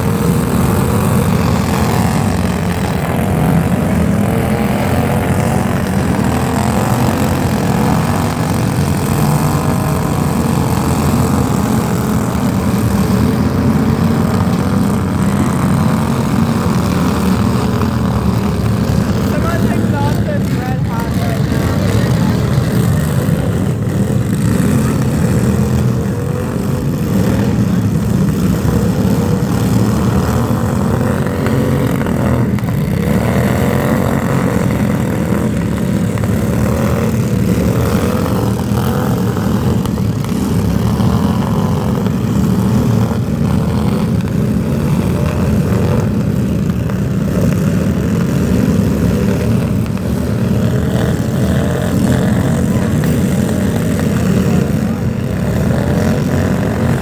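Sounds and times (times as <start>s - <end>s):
loud engine running: 0.0s - 57.0s.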